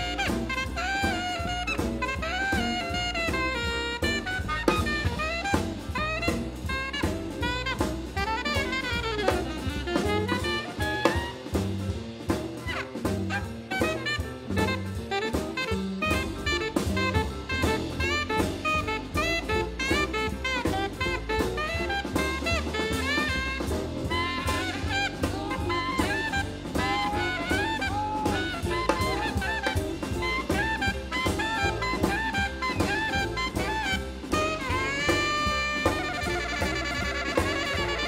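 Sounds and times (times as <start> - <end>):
alto saxophone soloing: 0.0 - 38.0
drum kit: 0.0 - 38.0
walking bass: 0.0 - 38.0.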